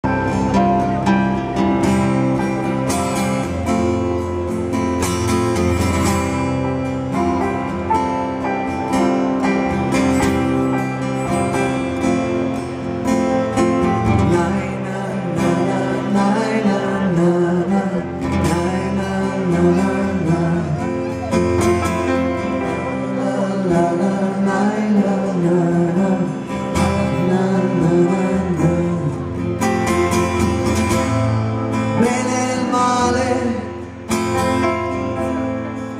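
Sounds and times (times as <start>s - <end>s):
acoustic guitar: 0.0s - 35.9s
live band music through pa: 0.0s - 35.9s.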